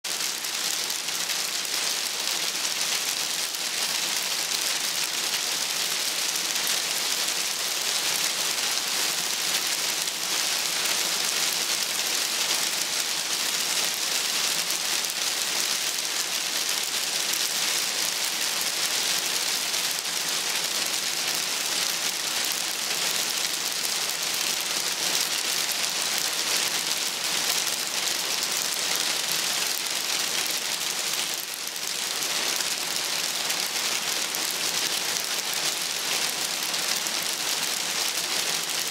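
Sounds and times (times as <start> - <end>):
hail pattering: 0.1 - 38.9.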